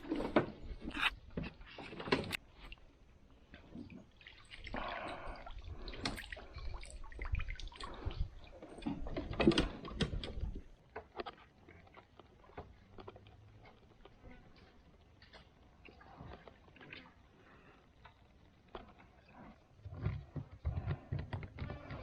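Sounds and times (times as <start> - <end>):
water splashing: 0.0 - 20.4.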